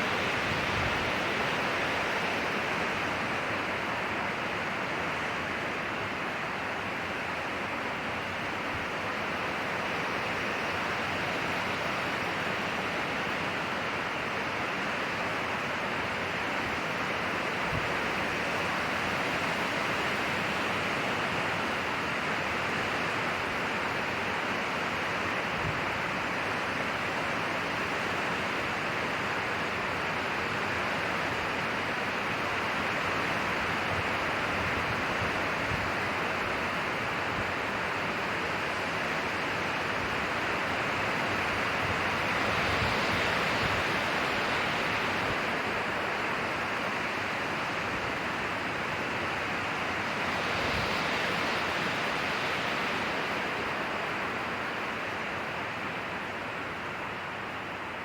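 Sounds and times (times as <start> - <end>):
wind through pine trees: 0.0 - 58.0.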